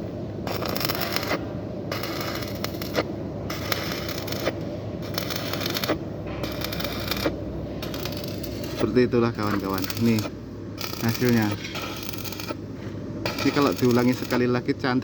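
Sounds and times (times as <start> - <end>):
welding arc crackling and hissing: 0.4 - 15.0.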